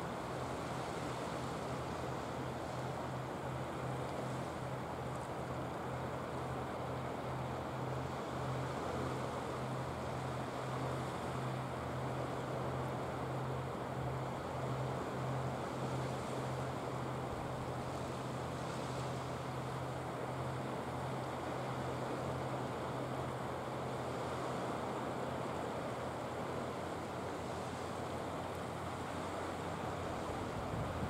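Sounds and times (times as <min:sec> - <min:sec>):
boat engine humming: 0:00.0 - 0:31.0
waves washing: 0:00.0 - 0:31.0
wind: 0:00.0 - 0:31.0.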